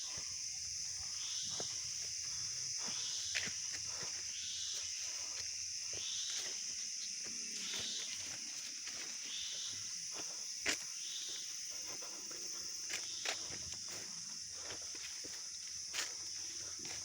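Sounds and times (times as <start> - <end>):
insects droning: 0.0 - 17.0
repeating insect call: 0.0 - 17.0.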